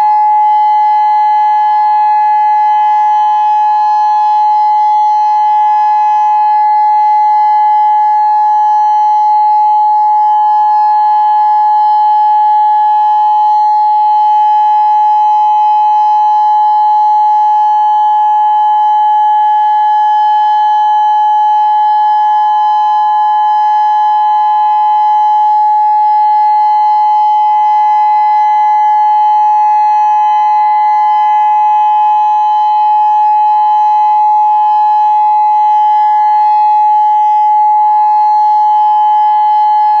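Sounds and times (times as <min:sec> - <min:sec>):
steady warning siren tone: 0:00.0 - 0:40.0.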